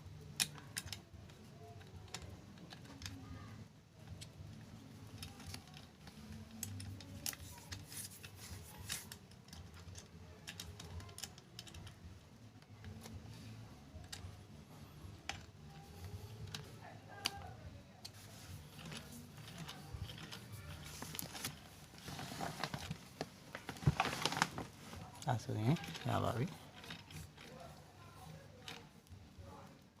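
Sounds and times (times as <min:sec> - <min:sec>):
metal parts clicking and tapping: 0:00.2 - 0:22.9, 0:25.2 - 0:29.8.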